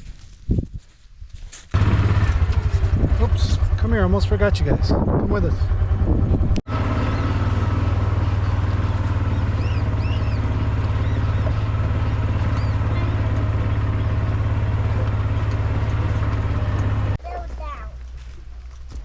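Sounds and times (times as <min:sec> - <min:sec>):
vehicle engine droning: 0:01.8 - 0:19.0.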